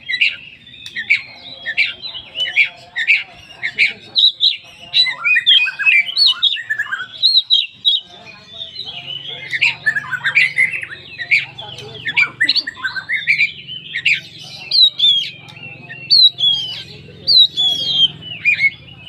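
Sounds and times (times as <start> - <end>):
bird singing varied song: 0.0 - 19.0.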